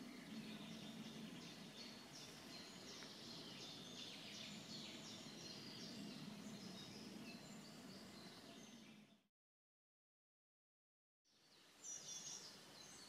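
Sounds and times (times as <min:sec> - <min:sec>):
small birds singing: 0:00.0 - 0:09.3, 0:11.3 - 0:13.0.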